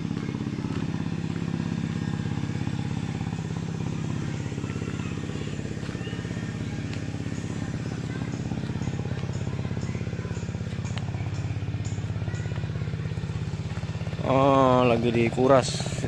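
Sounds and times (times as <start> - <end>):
small engine running steadily: 0.0 - 16.0.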